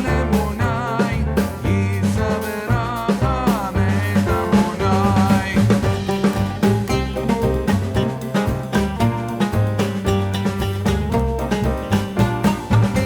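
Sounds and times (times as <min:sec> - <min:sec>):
bass: 0:00.0 - 0:13.0
sliding melodic lead: 0:00.0 - 0:13.0
steady drum beat: 0:00.0 - 0:13.0
upbeat background music: 0:00.0 - 0:13.0.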